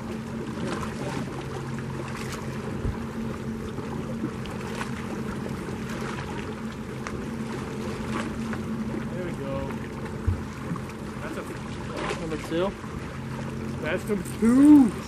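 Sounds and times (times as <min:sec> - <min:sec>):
low motor hum: 0:00.0 - 0:15.0
water splashing against boat: 0:00.0 - 0:15.0.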